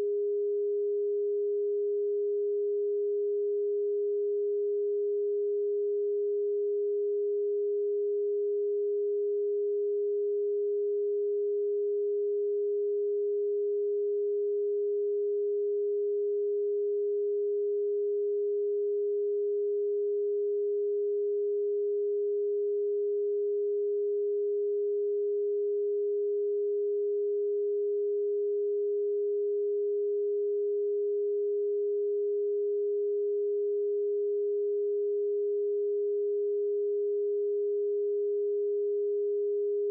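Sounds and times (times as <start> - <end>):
low sine tone: 0.0 - 39.9.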